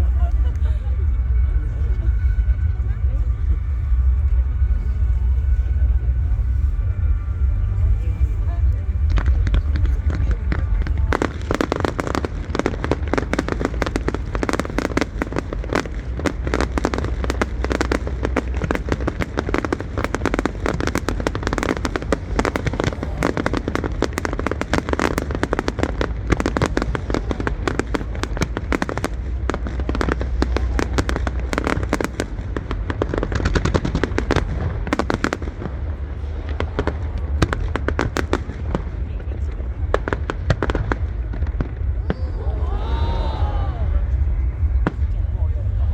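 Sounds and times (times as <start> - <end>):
fireworks bangs and crackles: 0.0 - 45.9
low rumble: 0.0 - 45.9.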